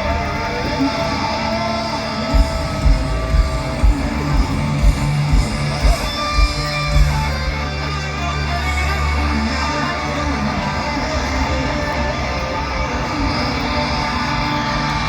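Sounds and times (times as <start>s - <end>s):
bass guitar: 0.0s - 15.0s
distorted electric guitars: 0.0s - 15.0s.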